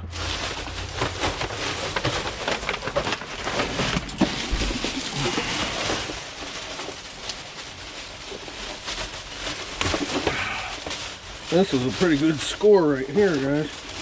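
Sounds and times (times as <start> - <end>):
plastic bags rustling: 0.0 - 14.0
small knocks and crinkles: 0.1 - 14.0.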